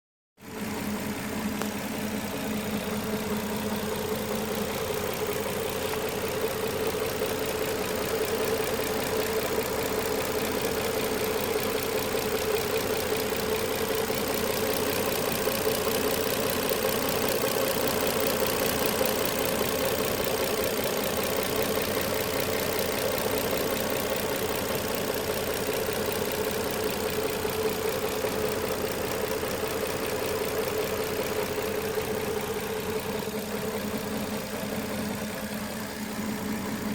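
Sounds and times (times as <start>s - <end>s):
car engine idling: 0.4s - 36.9s.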